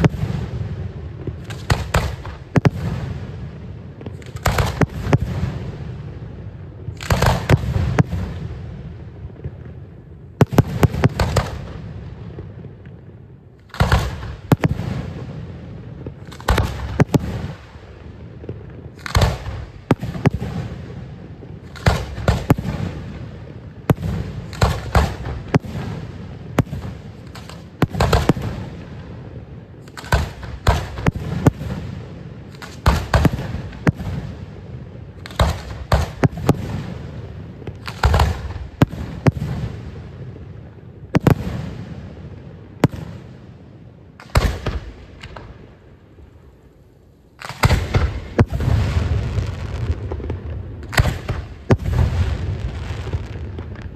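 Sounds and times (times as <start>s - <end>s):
fireworks bangs: 0.0s - 45.7s, 47.3s - 53.9s.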